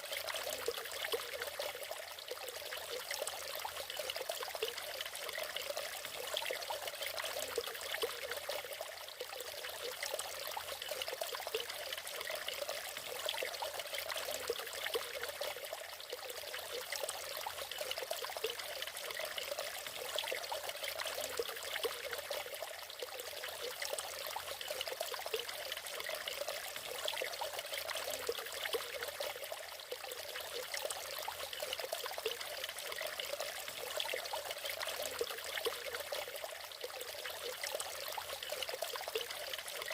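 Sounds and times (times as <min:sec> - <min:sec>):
waterfall splashing and trickling: 0:00.0 - 0:39.9.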